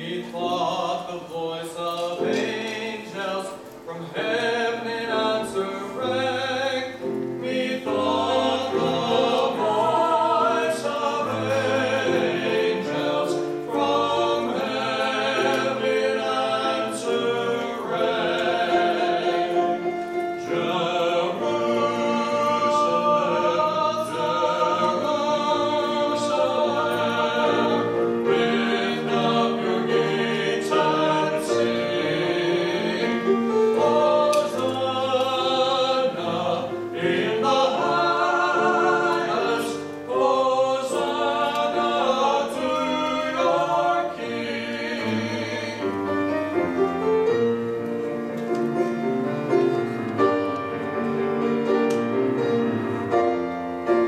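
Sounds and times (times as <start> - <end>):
two men singing duet: 0.0 - 46.2
piano accompaniment: 0.0 - 54.0.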